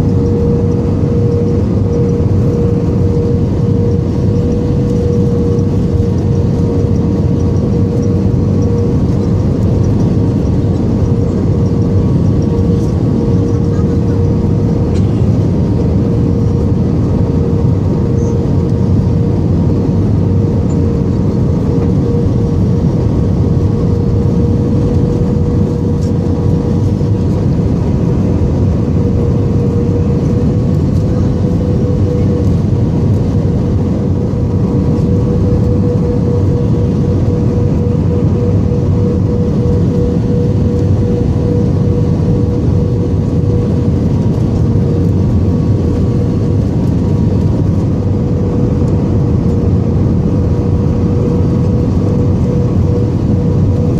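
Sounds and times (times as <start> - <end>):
aircraft engines and airflow rushing: 0.0 - 53.9
wavering humming tone: 0.0 - 53.9.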